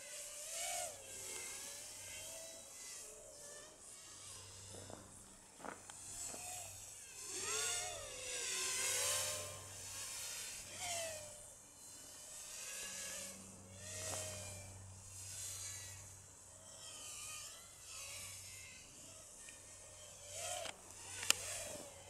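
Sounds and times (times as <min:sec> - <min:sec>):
drone motors buzzing: 0:00.0 - 0:22.0
steady low hum: 0:00.0 - 0:22.0.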